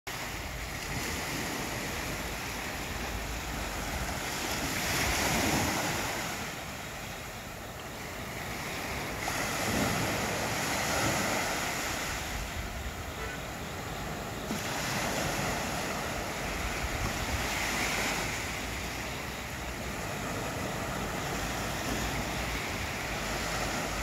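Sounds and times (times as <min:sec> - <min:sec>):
small waves washing up a beach: 0:00.1 - 0:24.0.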